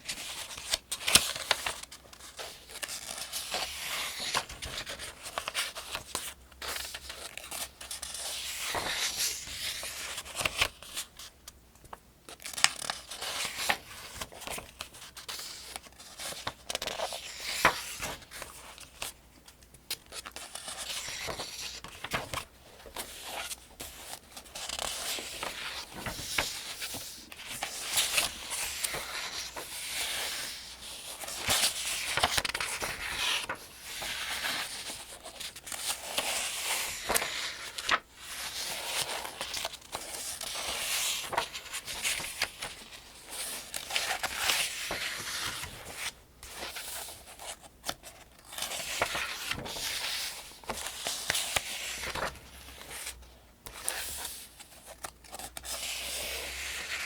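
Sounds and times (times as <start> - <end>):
paper pages rustling: 0.0 - 57.0.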